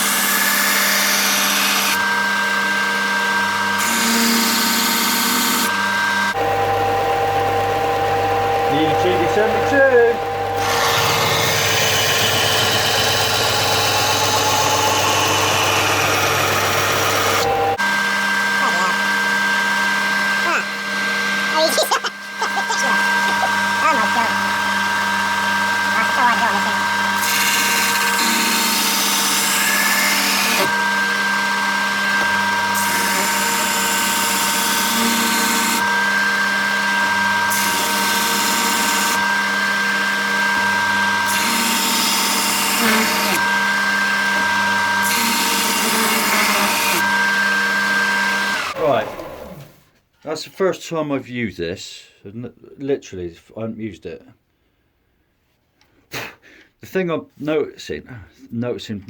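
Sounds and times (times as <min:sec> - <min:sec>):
belt grinder motor whine: 0:00.0 - 0:49.7.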